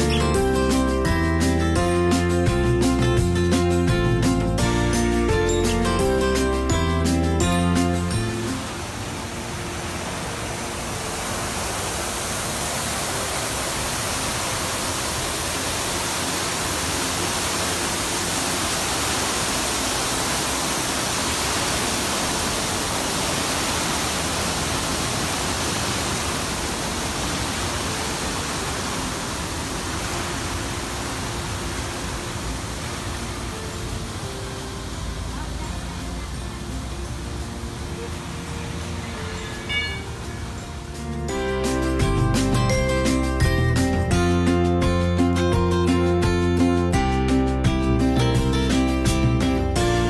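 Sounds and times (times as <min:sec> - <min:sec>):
fountain water splashing: 0:00.0 - 0:43.8.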